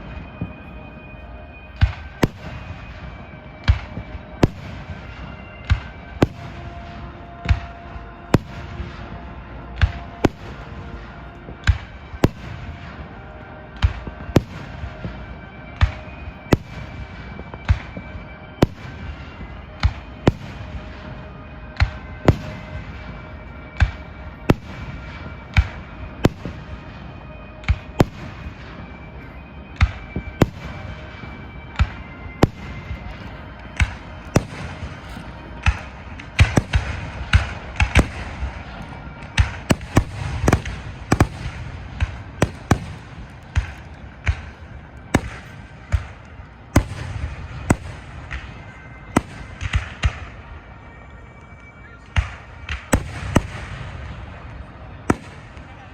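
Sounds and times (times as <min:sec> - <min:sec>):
fireworks bangs and booms: 0:00.0 - 0:55.9.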